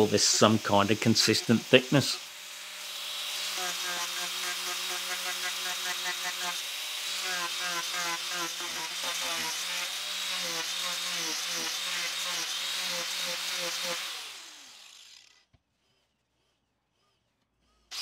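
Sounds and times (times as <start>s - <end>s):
angle grinder sanding wood: 0.0s - 18.0s.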